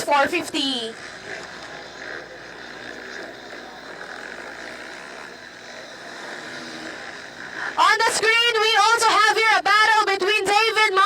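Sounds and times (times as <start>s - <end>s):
distant motocross engine drone: 0.0s - 11.0s.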